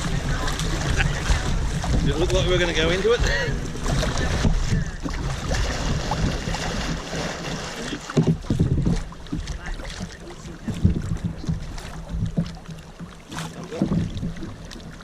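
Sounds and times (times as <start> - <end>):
wind on microphone: 0.0 - 12.6
rushing water: 0.0 - 15.0.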